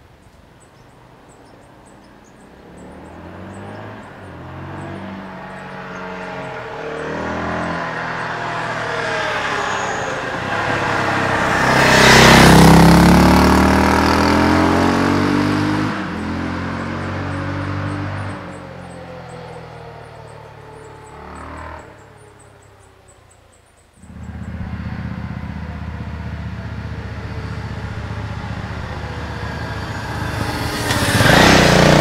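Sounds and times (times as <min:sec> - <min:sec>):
motorcycle accelerating past: 0:02.5 - 0:22.7, 0:24.0 - 0:32.0.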